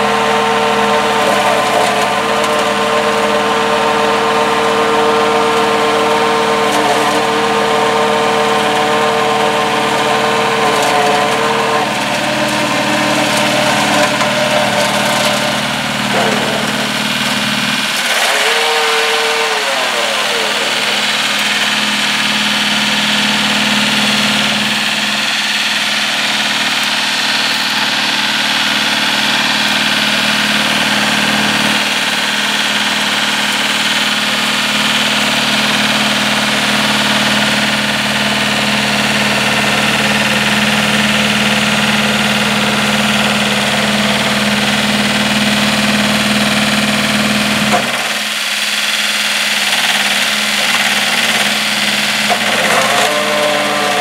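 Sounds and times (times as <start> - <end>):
diesel tractor engine running: 0.0 - 54.0
flail mulcher shredding brush: 0.0 - 54.0.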